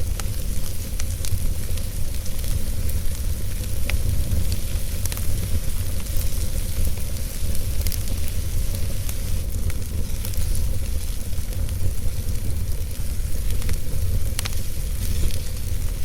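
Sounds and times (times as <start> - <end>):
wood fire burning: 0.0 - 16.0.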